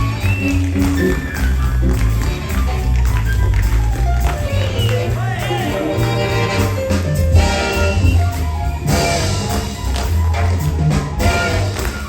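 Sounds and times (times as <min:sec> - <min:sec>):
live stage show music: 0:00.0 - 0:12.0
percussion strikes: 0:00.0 - 0:12.0.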